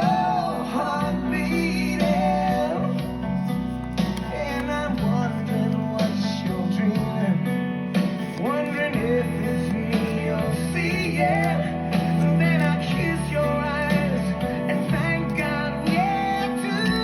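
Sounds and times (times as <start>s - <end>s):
person singing: 0.0s - 17.0s
strummed acoustic guitar: 0.0s - 17.0s.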